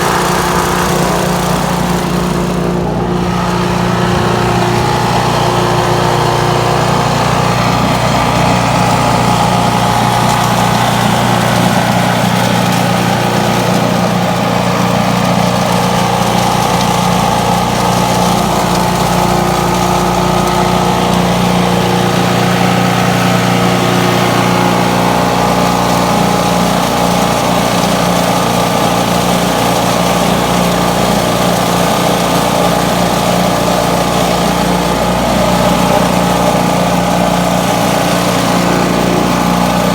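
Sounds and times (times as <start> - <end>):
leaf vacuum engine running: 0.0 - 39.9.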